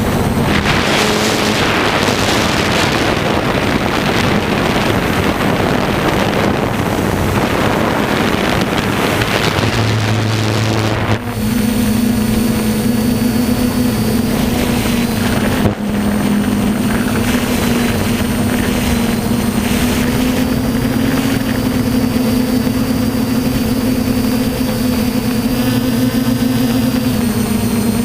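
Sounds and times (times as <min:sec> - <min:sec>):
drone motors humming: 0:00.0 - 0:28.0
wind on microphone: 0:00.0 - 0:28.0.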